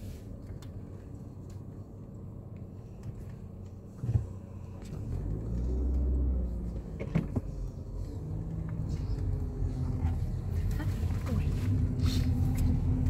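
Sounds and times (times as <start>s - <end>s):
car engine accelerating: 0.4s - 13.0s.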